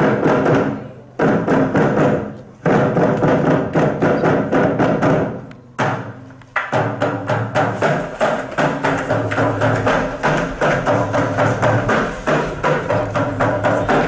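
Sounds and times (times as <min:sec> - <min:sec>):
wooden percussion strikes: 0:00.0 - 0:14.0.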